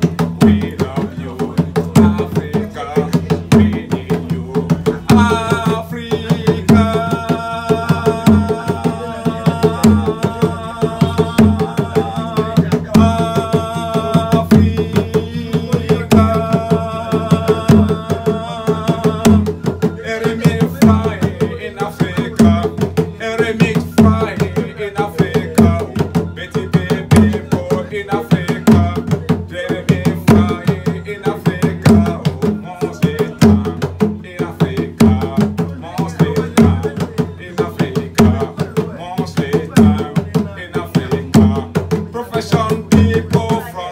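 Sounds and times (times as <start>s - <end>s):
hand drums playing: 0.0s - 43.9s.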